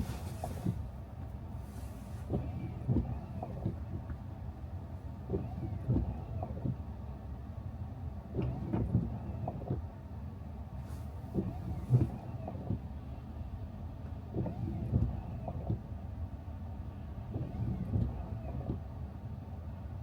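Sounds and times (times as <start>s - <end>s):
car road rumble: 0.0s - 20.0s.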